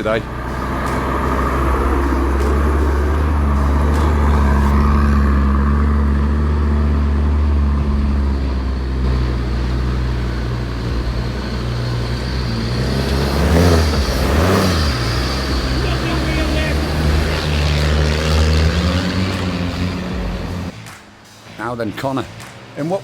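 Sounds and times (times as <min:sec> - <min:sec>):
truck engine running: 0:00.0 - 0:22.9.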